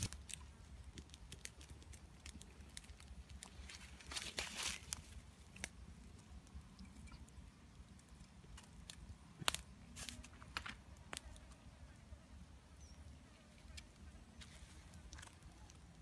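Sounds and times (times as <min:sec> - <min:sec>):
clicks and rustles of grilling fish: 0:00.0 - 0:11.7, 0:13.6 - 0:16.0.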